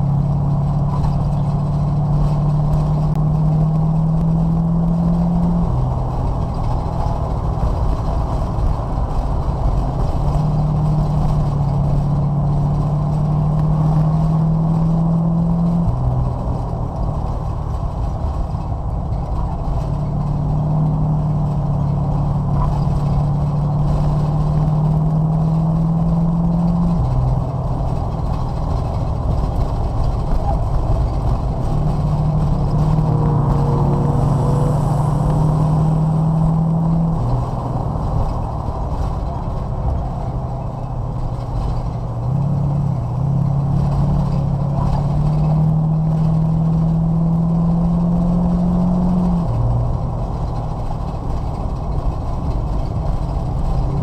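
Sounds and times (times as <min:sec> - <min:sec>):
race car engine revving: 0:00.0 - 0:54.0
road and tyre rumble: 0:00.0 - 0:54.0.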